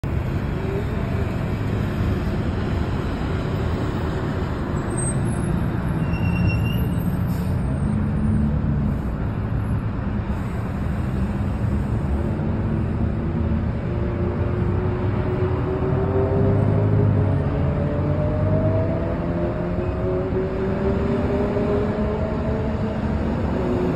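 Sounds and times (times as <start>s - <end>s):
road traffic rushing: 0.0s - 23.9s.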